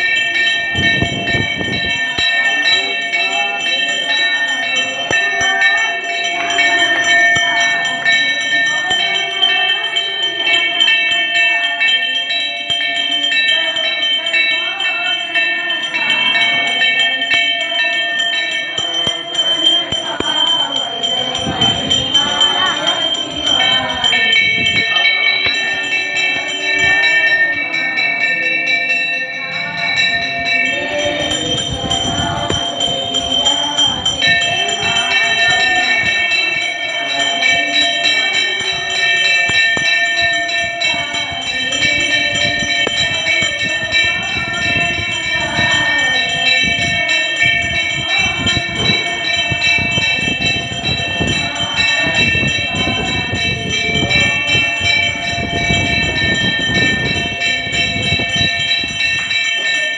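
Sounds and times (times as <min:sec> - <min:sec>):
bell ringing: 0:00.0 - 0:59.9
devotional song singing: 0:00.0 - 0:59.9.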